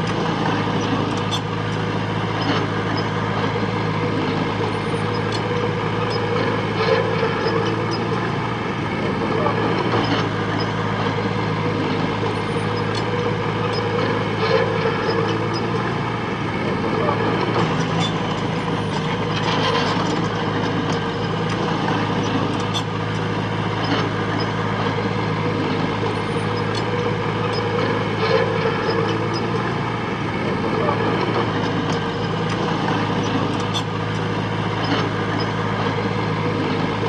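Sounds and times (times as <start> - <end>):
diesel engine running under load: 0.0 - 37.0.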